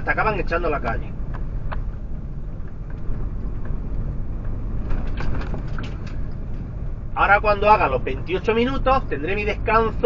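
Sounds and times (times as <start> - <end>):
lorry diesel engine and tyres rumble: 0.0 - 10.0.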